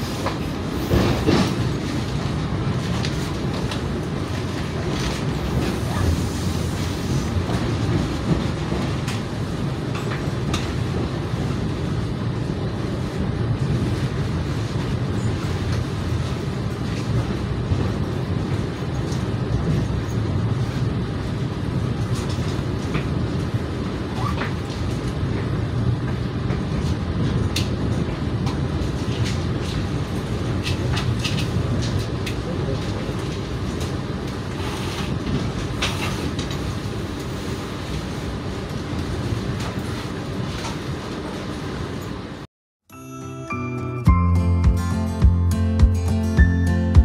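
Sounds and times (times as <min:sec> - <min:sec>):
train wheels rumbling on rail: 0:00.0 - 0:42.5.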